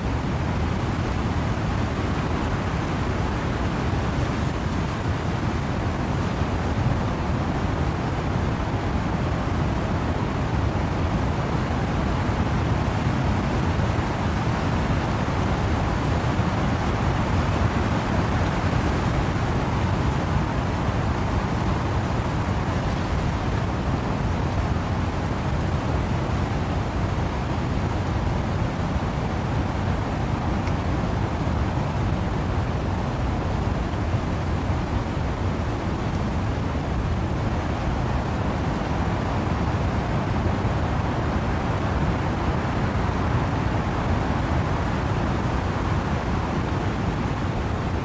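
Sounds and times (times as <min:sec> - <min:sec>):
wind rushing through trees: 0:00.0 - 0:48.0
wind-driven rain: 0:00.0 - 0:48.0.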